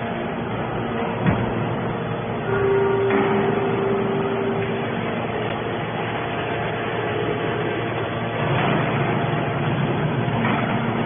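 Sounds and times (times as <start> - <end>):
hydraulic machine running: 0.0 - 11.0.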